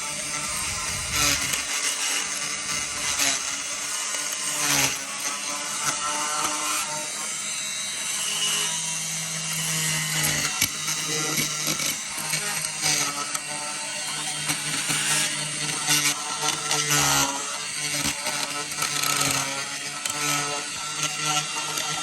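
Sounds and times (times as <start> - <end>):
power sander on metal: 0.0 - 22.0.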